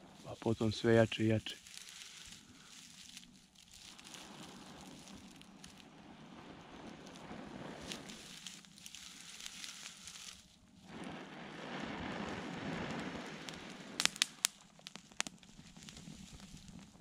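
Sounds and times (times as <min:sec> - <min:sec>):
blowing into tinder bundle: 0:00.0 - 0:17.0
tinder crackling and snapping: 0:00.0 - 0:17.0.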